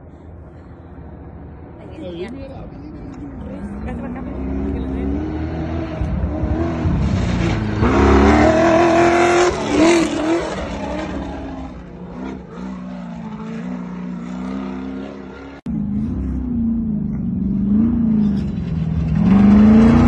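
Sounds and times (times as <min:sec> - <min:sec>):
steady race engine: 0:00.0 - 0:20.0
race truck engine revving by: 0:03.5 - 0:20.0.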